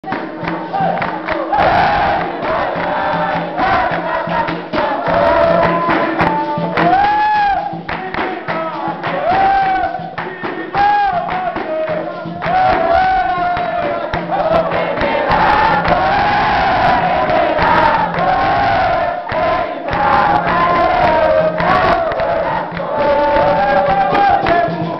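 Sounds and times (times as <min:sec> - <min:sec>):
group singing together: 0:00.0 - 0:24.9
steady percussion: 0:00.0 - 0:24.9.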